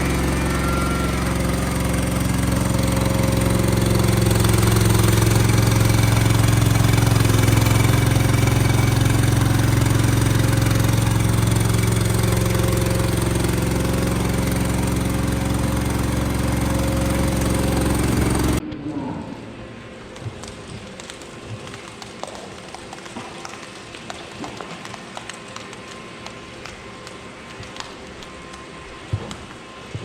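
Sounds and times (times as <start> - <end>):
engine humming steadily: 0.0 - 18.6, 19.5 - 30.0.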